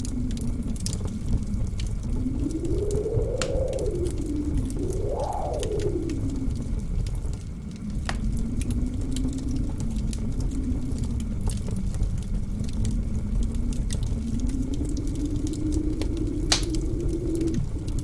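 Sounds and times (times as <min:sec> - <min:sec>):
blizzard wind howling: 0:00.0 - 0:18.0
wood fire crackling: 0:00.0 - 0:18.0.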